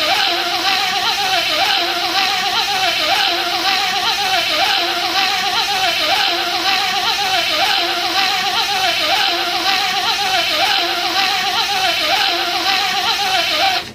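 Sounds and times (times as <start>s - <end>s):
man imitating bee buzzing: 0.0s - 13.9s.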